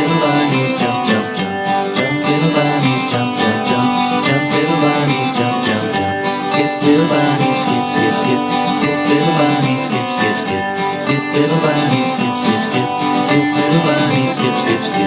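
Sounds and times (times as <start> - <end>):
children's song with strummed beat: 0.0 - 15.0.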